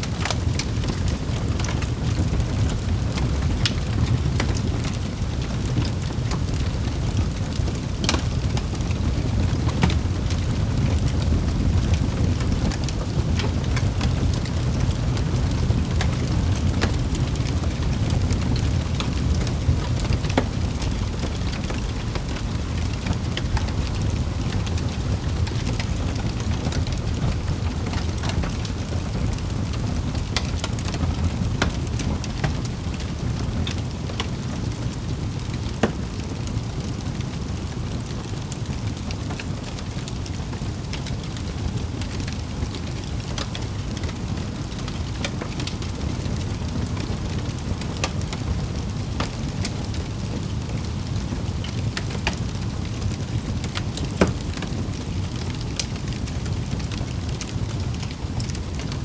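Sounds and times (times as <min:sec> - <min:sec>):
wood fire crackling in a fireplace: 0:00.0 - 0:59.0.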